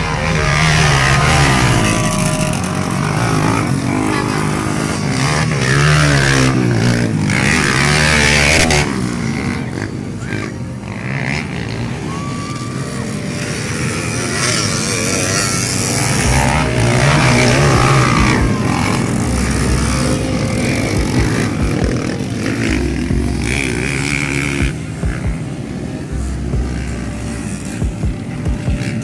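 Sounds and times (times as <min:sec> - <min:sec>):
dirt bikes revving: 0:00.0 - 0:29.0.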